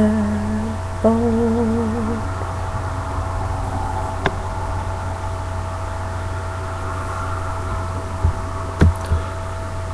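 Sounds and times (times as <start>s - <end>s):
low hum and hiss: 0.0s - 9.9s
thin steady tone: 0.0s - 9.9s.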